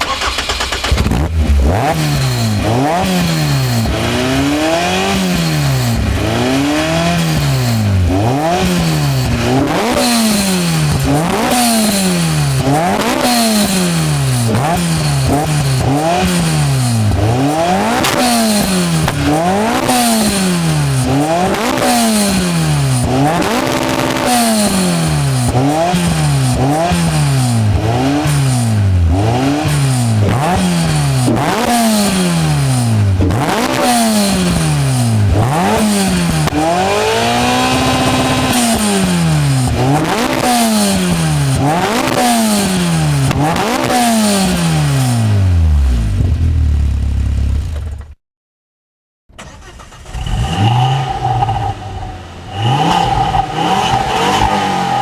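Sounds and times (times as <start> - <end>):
car engine revving: 0.0 - 47.7, 49.4 - 55.0
car engine starting: 0.0 - 48.2, 49.3 - 55.0.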